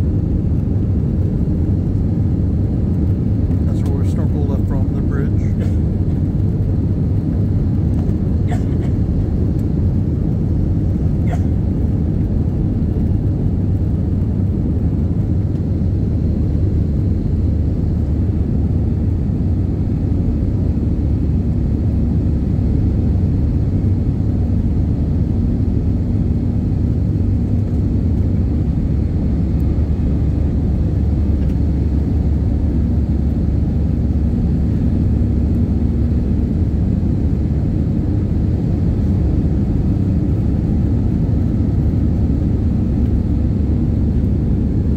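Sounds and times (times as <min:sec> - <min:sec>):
jet engines rumbling in cabin: 0:00.0 - 0:44.9.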